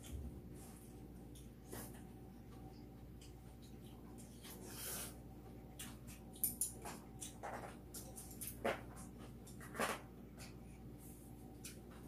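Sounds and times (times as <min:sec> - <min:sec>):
steady room hum: 0:00.0 - 0:12.0.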